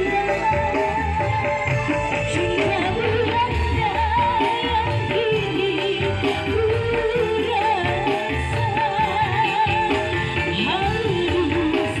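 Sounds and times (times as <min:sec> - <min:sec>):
electronic keyboard with bass beat: 0:00.0 - 0:12.0
woman singing with vibrato: 0:00.0 - 0:12.0.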